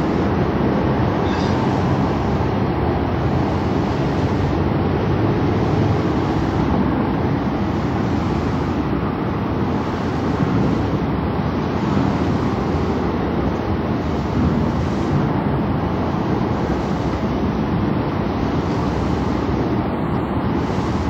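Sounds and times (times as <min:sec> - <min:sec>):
waterfront background rumble: 0:00.0 - 0:21.0.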